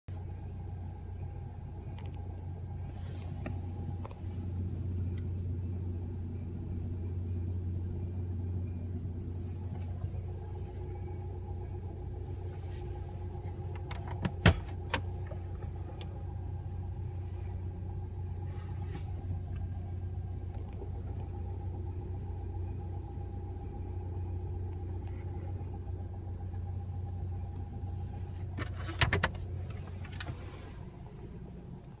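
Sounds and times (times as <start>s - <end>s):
air vent low hum: 0.1s - 32.0s
faint high whine: 0.1s - 32.0s.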